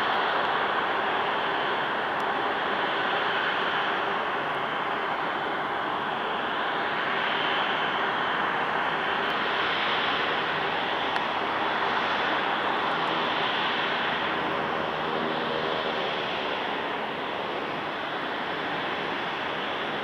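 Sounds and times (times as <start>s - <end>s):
jet engine rushing noise: 0.0s - 20.0s.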